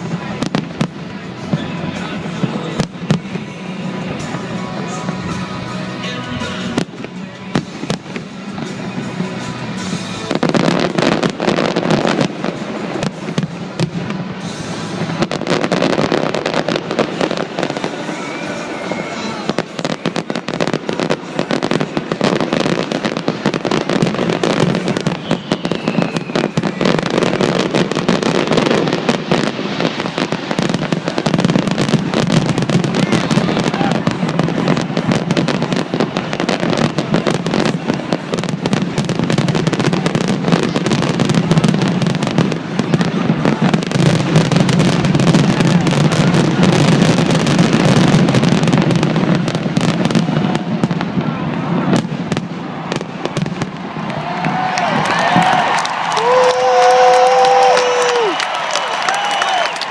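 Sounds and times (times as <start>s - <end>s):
fireworks booming and crackling: 0.0s - 59.9s.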